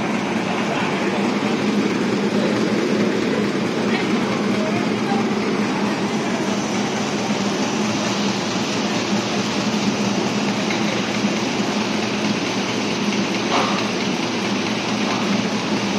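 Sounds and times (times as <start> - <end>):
low machine hum: 0.0 - 15.9.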